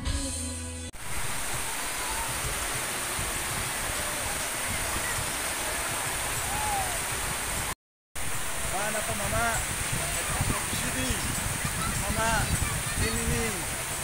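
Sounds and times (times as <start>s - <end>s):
rain on metal roof: 1.0s - 14.0s.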